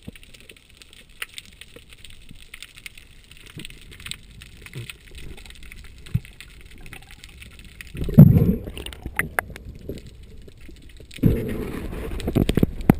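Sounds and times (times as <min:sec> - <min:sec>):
faint underwater crackling: 0:00.0 - 0:12.9.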